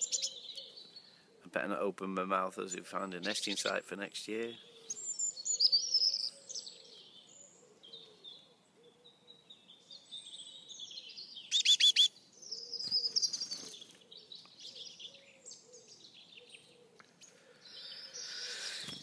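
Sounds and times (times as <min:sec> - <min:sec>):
birds chirping and calling: 0:00.0 - 0:01.8, 0:02.4 - 0:19.0.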